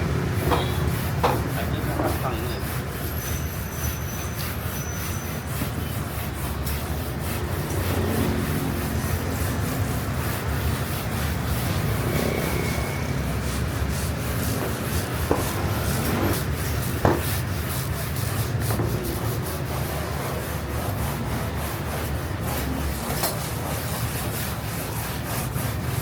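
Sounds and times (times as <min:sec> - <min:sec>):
steady rubbing: 0:00.3 - 0:26.0.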